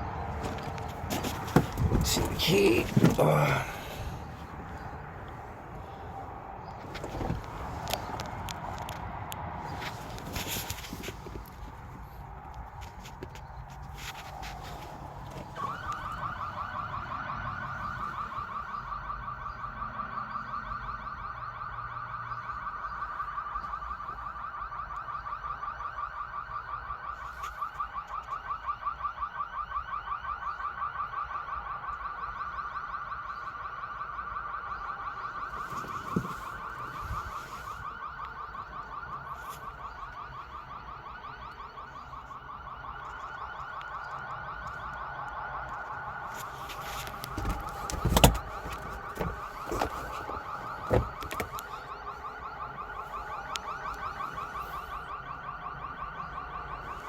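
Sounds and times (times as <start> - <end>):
car alarm warbling: 0.0 - 8.2, 15.4 - 57.0.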